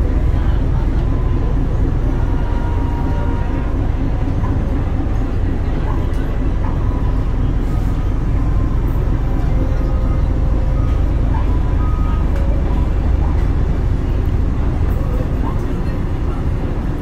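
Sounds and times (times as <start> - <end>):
ship engines rumbling: 0.0 - 17.0.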